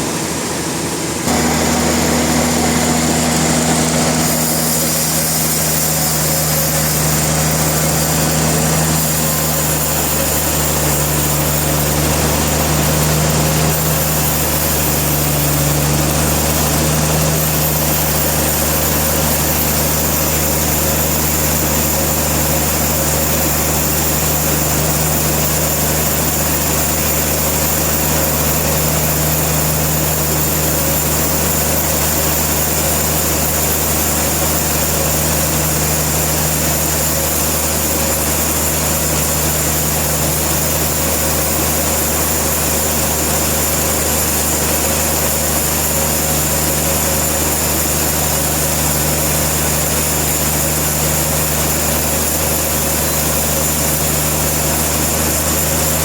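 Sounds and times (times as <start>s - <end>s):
sawmill engine droning: 0.0s - 56.0s.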